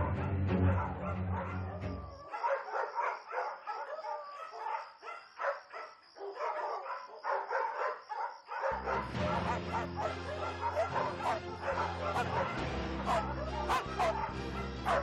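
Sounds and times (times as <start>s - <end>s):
dogs barking: 0.0s - 15.0s.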